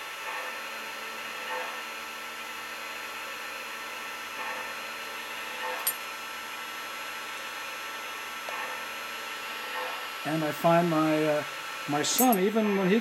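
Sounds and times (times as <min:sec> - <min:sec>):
electric hoist motor whirring: 0:00.0 - 0:13.0.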